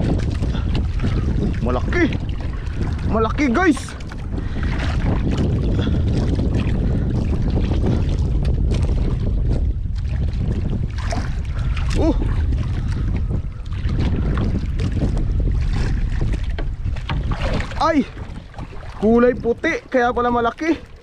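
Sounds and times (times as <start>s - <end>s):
water sloshing against boat: 0.0s - 21.0s
wind buffeting microphone: 0.0s - 21.0s.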